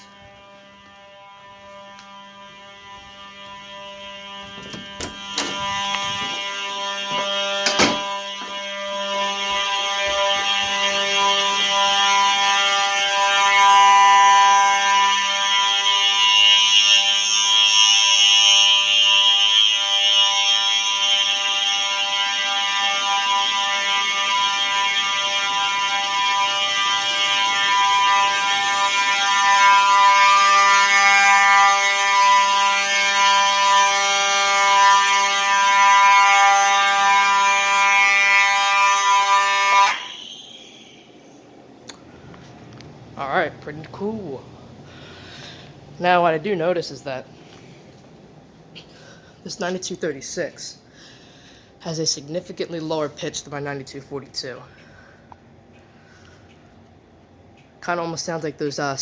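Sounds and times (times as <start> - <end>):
fire alarm horns sounding: 0.0 - 59.0.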